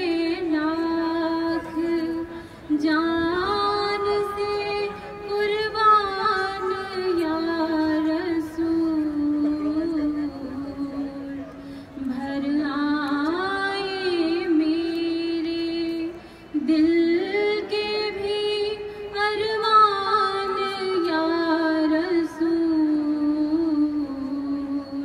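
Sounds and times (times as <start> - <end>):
woman singing: 0.0 - 11.4, 12.0 - 25.0.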